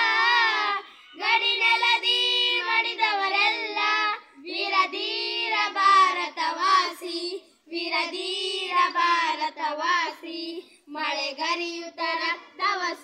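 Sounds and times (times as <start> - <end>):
children singing unaccompanied: 0.0 - 13.0.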